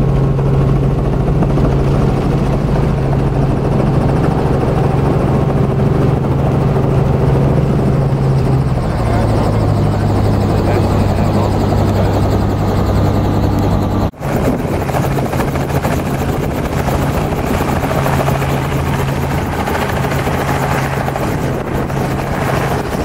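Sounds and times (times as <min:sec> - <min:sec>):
helicopter rotor and engine drone: 0:00.0 - 0:23.0.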